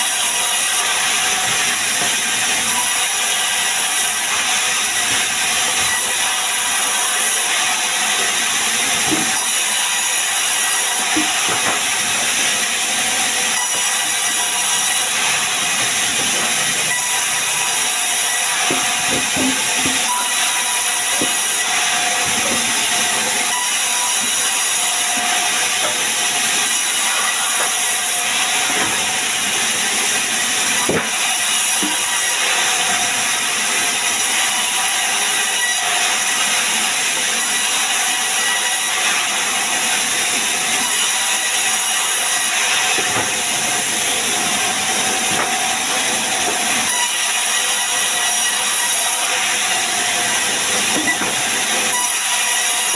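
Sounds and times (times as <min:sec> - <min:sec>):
band saw cutting log: 0:00.0 - 0:52.9.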